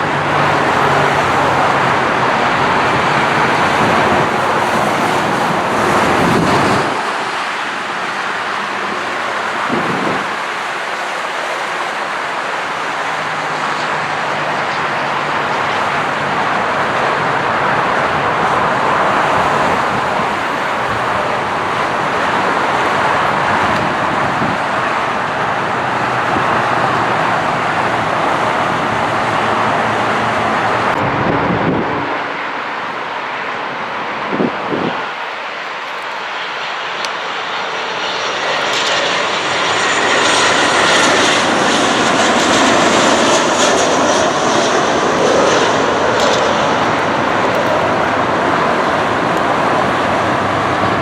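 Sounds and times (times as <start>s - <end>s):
jet aircraft passing: 0.0s - 51.0s.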